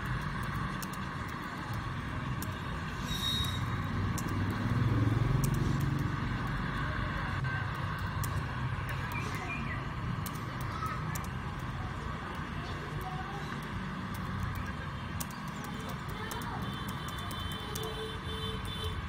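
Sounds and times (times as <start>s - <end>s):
laptop keys typing: 0.0s - 6.8s, 7.6s - 18.9s
motor vehicle passing: 0.0s - 17.2s
street traffic hum: 0.0s - 19.0s.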